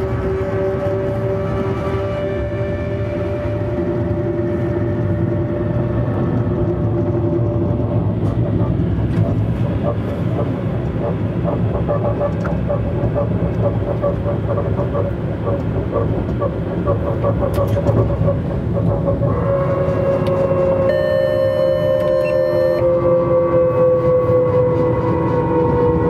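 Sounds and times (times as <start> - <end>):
train rumble from inside: 0.0 - 26.0
train whine: 0.0 - 26.0.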